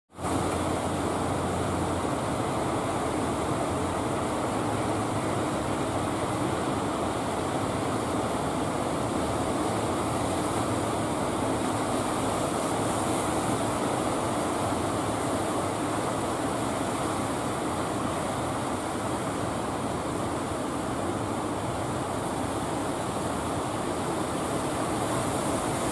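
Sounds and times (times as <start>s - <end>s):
ocean surf breaking: 0.1s - 25.9s.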